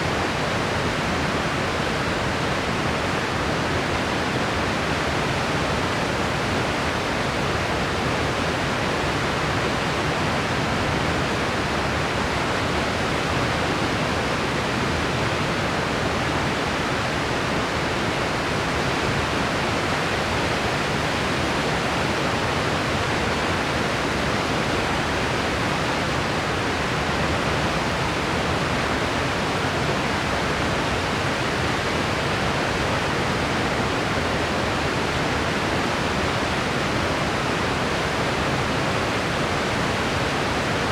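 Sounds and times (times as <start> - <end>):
steady white noise hiss: 0.0 - 40.9.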